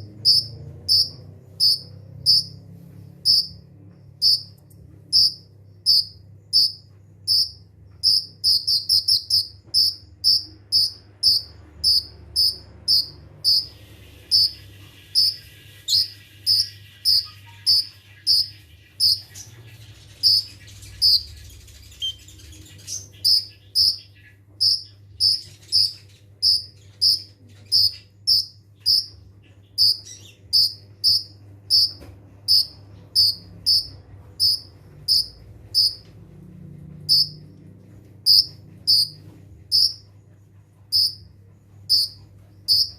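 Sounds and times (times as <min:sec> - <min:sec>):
bird sharp high chirps: 0:00.1 - 0:02.6, 0:03.2 - 0:03.6, 0:04.2 - 0:36.1, 0:37.1 - 0:37.4, 0:38.2 - 0:40.1, 0:41.9 - 0:42.9.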